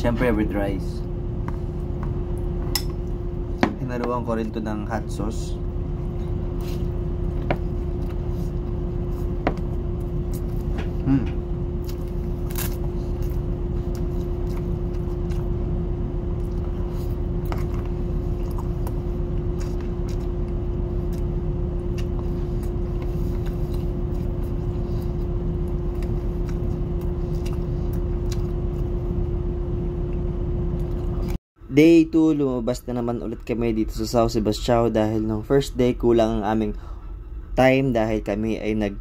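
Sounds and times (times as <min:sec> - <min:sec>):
ship machinery drone: 0:00.0 - 0:39.0.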